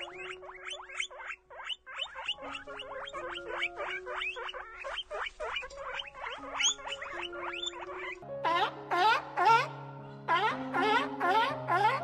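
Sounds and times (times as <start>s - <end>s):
guinea pigs squeaking: 0.0s - 12.0s.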